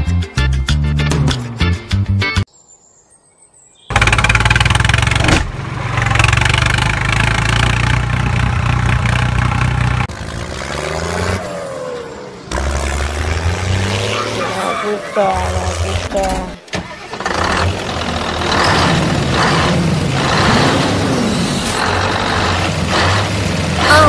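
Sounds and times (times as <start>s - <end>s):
heavy vehicle engine rumble: 3.9s - 24.0s.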